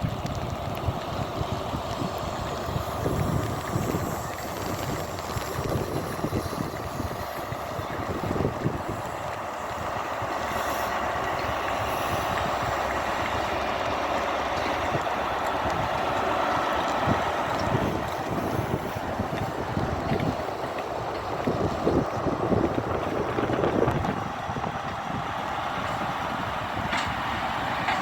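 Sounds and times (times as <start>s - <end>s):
heavy rain hissing: 0.0s - 28.0s
wind buffeting microphone: 0.0s - 28.0s.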